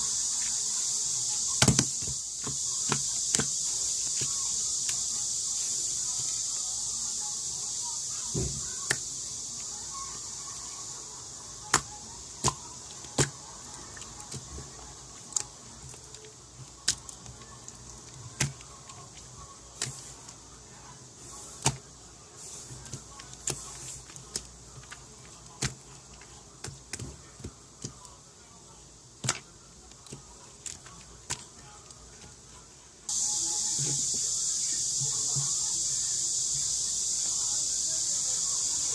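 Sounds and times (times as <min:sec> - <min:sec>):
steady hiss: 0:00.0 - 0:30.2, 0:30.8 - 0:38.9.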